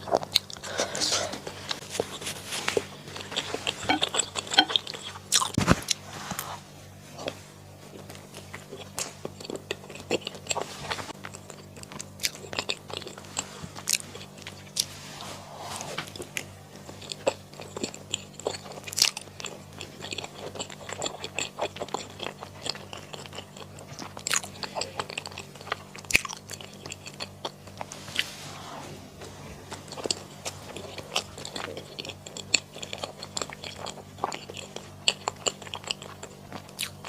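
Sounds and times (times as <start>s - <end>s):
faint low hum: 0.0s - 37.0s
person chewing food: 0.0s - 37.0s.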